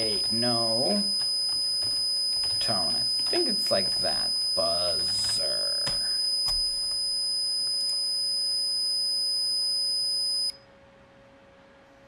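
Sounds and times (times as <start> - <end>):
high-pitched buzzer tone: 0.0 - 10.6.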